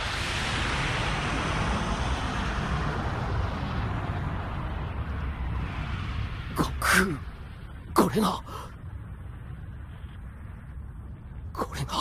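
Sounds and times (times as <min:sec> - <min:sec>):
energy burst rush with rumble: 0:00.0 - 0:12.0.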